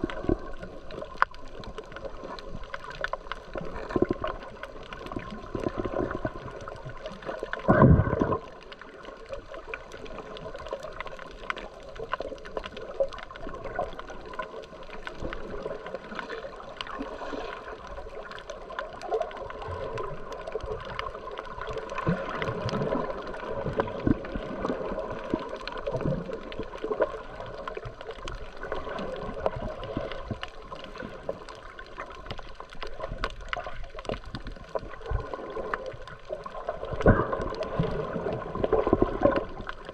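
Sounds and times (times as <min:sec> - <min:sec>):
small clicks and crackles: 0:00.0 - 0:39.9
water gurgling and sloshing: 0:00.0 - 0:39.9.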